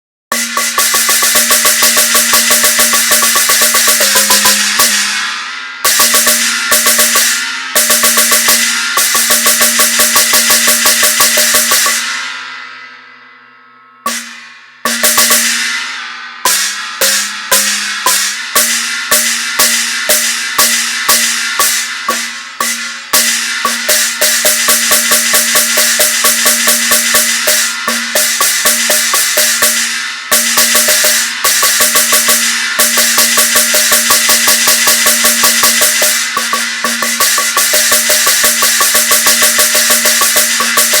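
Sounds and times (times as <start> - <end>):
gong struck ringing: 1.4 - 41.0.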